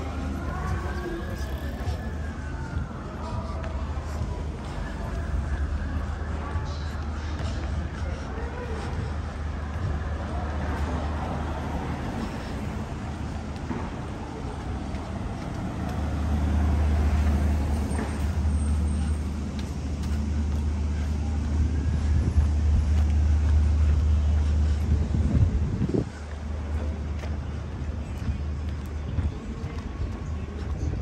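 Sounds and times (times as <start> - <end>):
city street rumble: 0.0 - 31.0.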